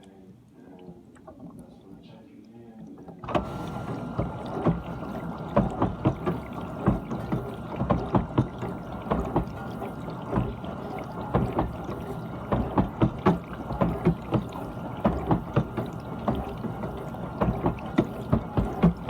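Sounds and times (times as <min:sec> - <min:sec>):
dishwasher whine: 0:03.0 - 0:19.0
water spraying and splashing: 0:03.3 - 0:19.0.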